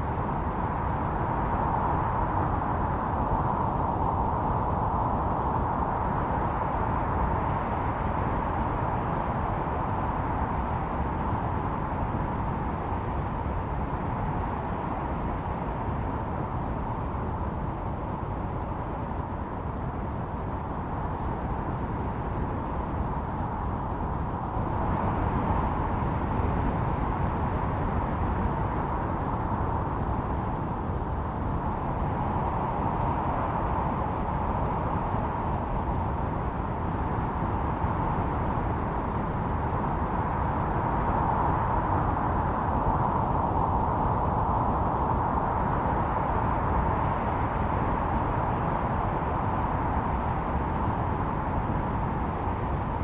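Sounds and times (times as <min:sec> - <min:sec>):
howling blizzard wind: 0:00.0 - 0:53.0.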